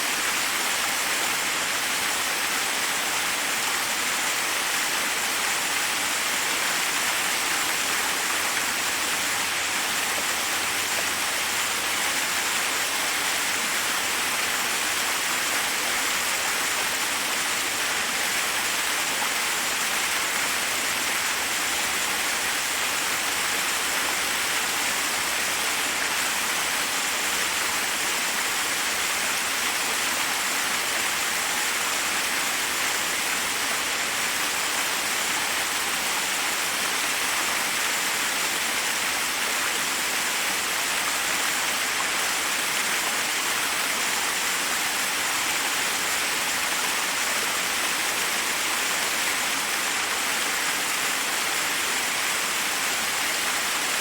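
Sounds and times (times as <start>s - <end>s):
waterfall cascading over rocks: 0.0s - 54.0s.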